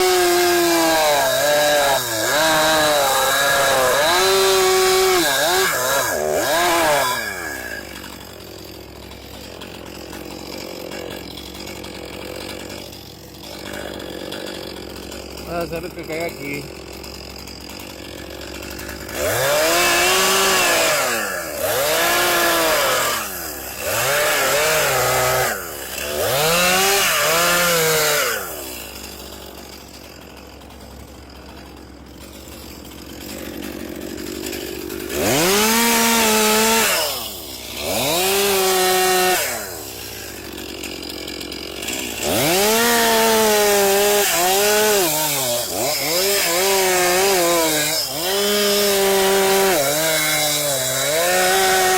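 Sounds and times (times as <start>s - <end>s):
chainsaw revving: 0.0s - 51.9s.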